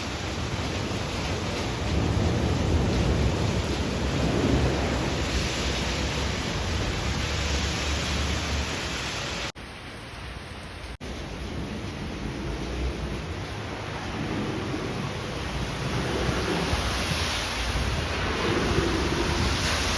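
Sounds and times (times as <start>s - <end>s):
heavy rain hissing: 0.0s - 19.9s
rolling thunder rumble: 0.3s - 8.7s, 11.0s - 19.9s.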